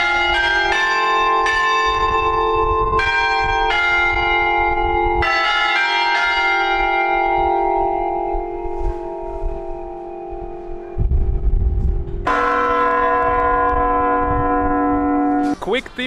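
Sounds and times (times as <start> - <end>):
church bells chiming tune: 0.0 - 15.7.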